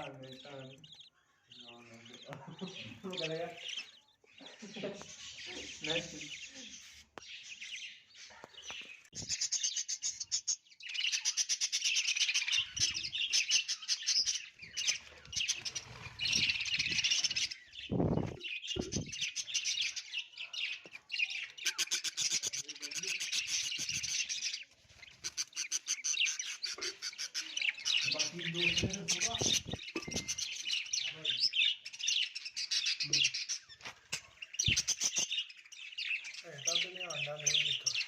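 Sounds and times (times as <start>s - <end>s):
budgerigars chattering and chirping: 0.0s - 38.0s.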